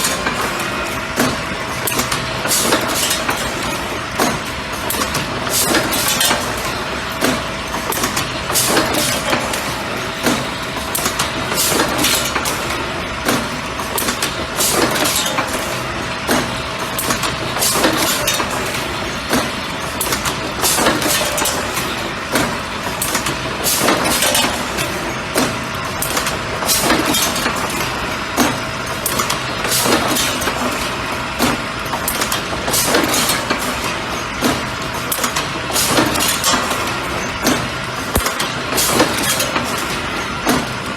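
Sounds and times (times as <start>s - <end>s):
machine mechanism clacks: 0.0s - 40.9s
steady mechanical hum: 0.0s - 40.9s.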